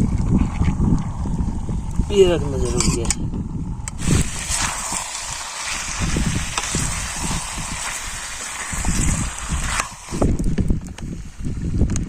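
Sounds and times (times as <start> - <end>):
wind buffeting microphone: 0.0 - 12.0
steady hiss: 1.0 - 11.6.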